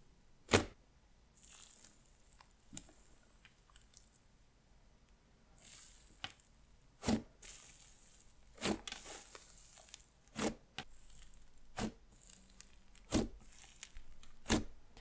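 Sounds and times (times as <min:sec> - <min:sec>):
slime crackling: 0:01.4 - 0:04.2, 0:05.6 - 0:15.0.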